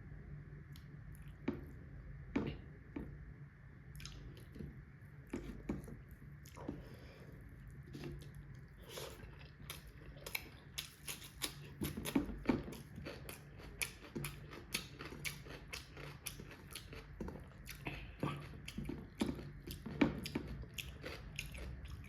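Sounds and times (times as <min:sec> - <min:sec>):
person chewing wetly: 0:04.0 - 0:22.0.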